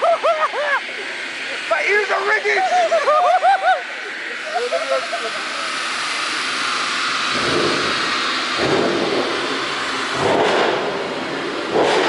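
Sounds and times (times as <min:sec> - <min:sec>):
car engine and exhaust roar: 0:00.0 - 0:12.0.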